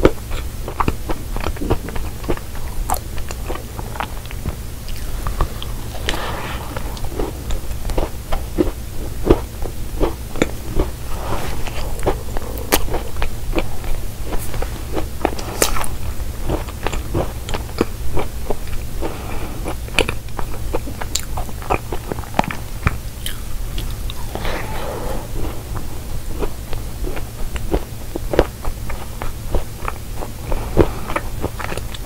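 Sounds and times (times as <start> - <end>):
cookie chewing crunches: 0.0 - 32.0.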